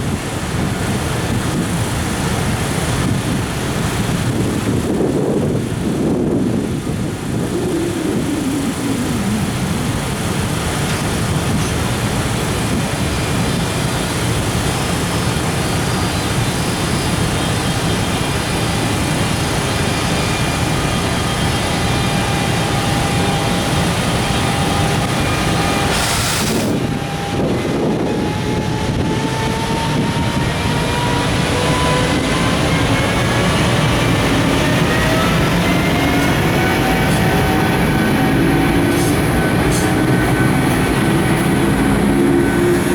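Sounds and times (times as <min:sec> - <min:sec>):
locomotive motor whine: 0:00.0 - 0:42.9
train rumbling: 0:00.0 - 0:42.9.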